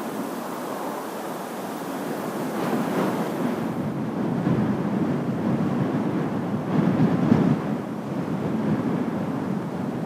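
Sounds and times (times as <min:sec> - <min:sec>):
surf on seawall: 0:00.0 - 0:10.0
wind buffeting microphone: 0:00.0 - 0:10.0.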